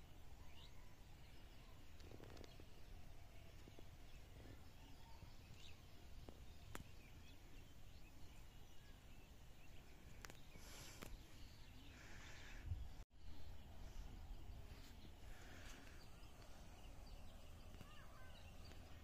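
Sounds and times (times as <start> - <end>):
distant birds calling: 2.1 - 19.0.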